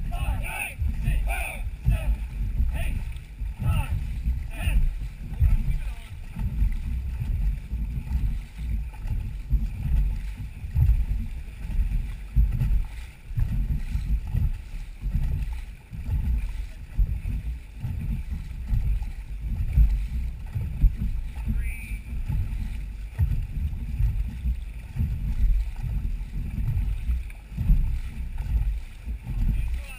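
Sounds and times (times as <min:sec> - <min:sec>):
water along boat hull: 0:00.0 - 0:29.9
wind buffeting microphone: 0:00.0 - 0:29.9.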